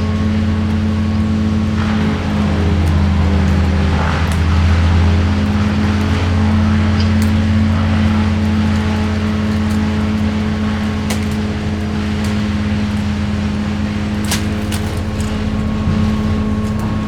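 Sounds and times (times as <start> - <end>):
large engine humming: 0.0 - 17.0.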